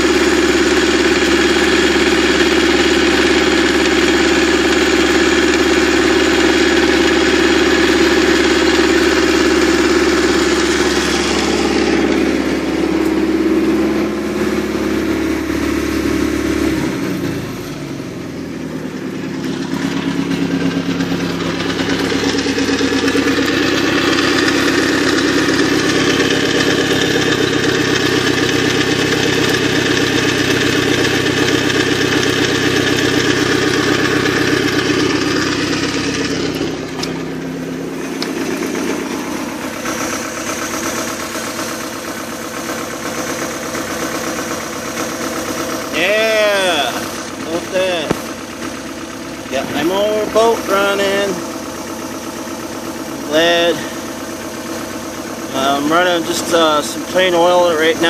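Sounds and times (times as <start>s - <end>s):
boat engine idling: 0.0s - 58.0s.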